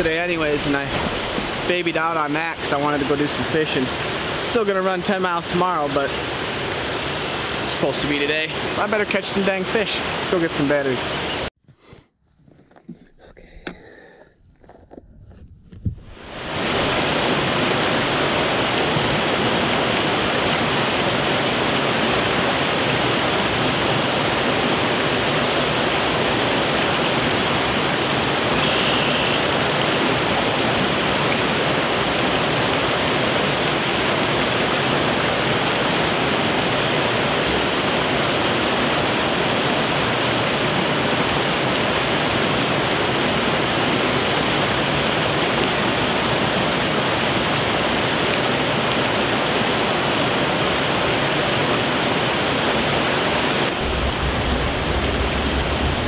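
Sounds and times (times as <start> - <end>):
creek rushing over logs: 0.0 - 11.5, 15.8 - 56.0.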